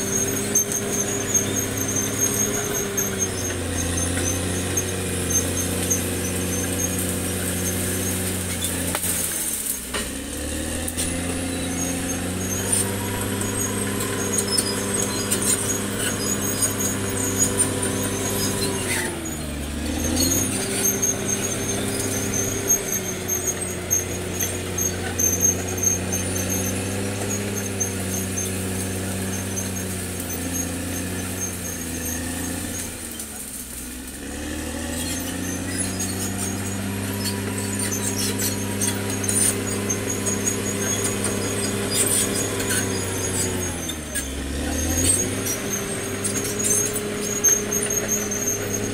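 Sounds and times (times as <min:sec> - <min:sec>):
bulldozer diesel engine under load: 0:00.0 - 0:48.9
high squealing running gear: 0:00.0 - 0:48.9.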